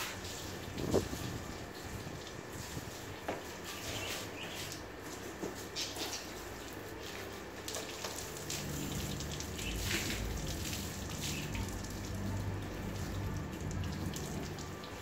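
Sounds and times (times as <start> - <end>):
hose spraying water on car: 0.0 - 15.0
low steady hum: 0.0 - 15.0.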